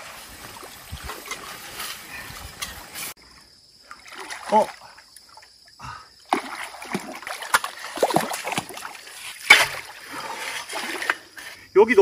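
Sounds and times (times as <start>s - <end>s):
muddy water splashing: 0.0s - 3.0s, 3.8s - 11.5s.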